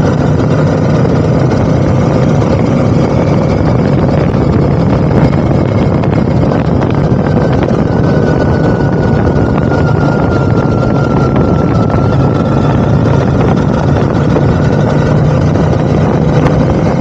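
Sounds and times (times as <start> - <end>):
faint whine falling in pitch: 0.0 - 17.0
motorcycle engine running: 0.0 - 17.0
wind noise on microphone: 0.0 - 17.0.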